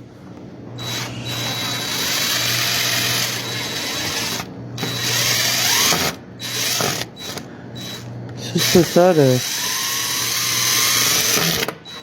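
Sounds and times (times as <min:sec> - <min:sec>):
power drill driving screw into wood: 0:00.8 - 0:12.0.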